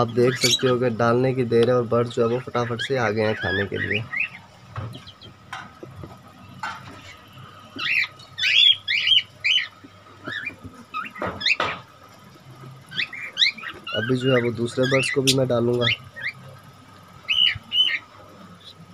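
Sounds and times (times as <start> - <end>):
parrots chirping: 0.0 - 0.9, 2.1 - 18.8.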